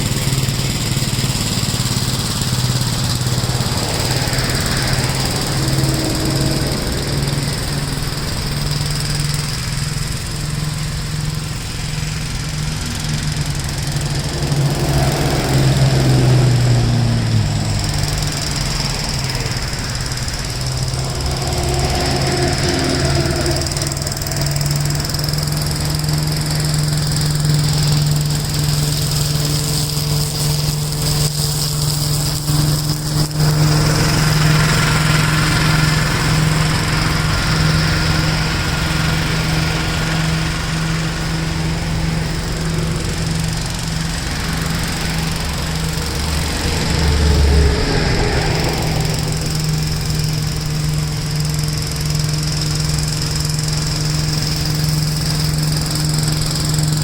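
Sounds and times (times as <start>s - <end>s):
mower mulching leaves: 0.0s - 57.0s
rushing noise: 0.0s - 57.0s
tractor engine running: 0.0s - 57.0s.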